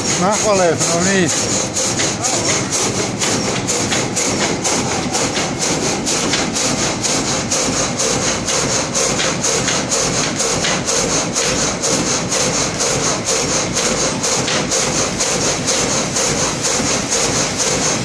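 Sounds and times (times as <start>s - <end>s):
frame saw cutting log: 0.0s - 18.0s.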